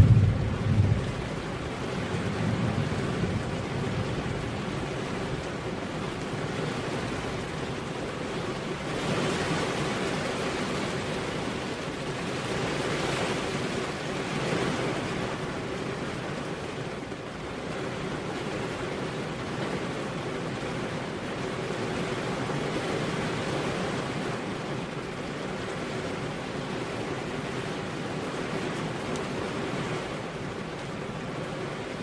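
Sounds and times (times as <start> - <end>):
heavy rain on a road: 0.0 - 32.0.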